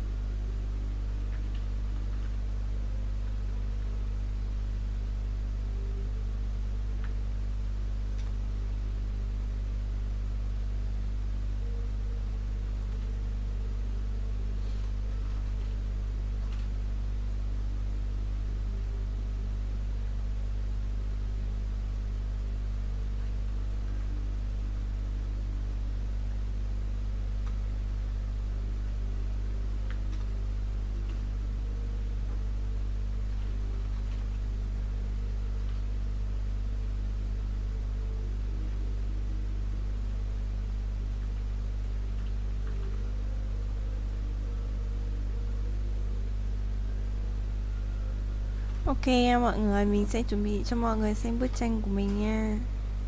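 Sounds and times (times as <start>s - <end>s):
constant hiss: 0.0s - 53.0s
low electrical hum: 0.0s - 53.0s.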